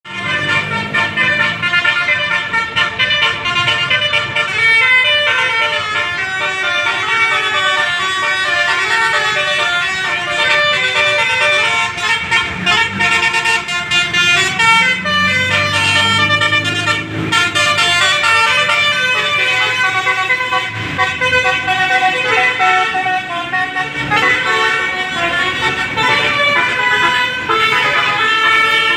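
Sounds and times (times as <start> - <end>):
multi-tone bus horns playing tune: 0.1 - 28.9.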